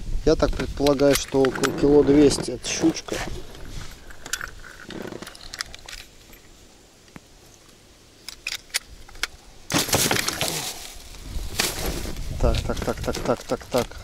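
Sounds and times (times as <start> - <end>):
rustling: 0.4 - 14.0.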